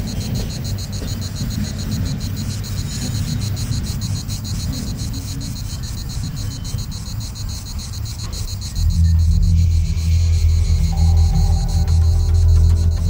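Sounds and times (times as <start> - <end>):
diesel train rumbling: 0.0 - 13.0
high-pitched insect chorus: 0.0 - 13.0.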